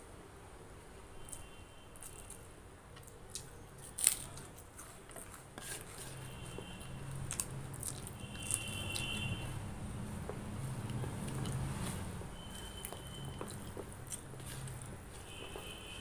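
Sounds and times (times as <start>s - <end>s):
hands squishing rice and curry: 1.2s - 16.0s
biting and chewing: 2.0s - 16.0s.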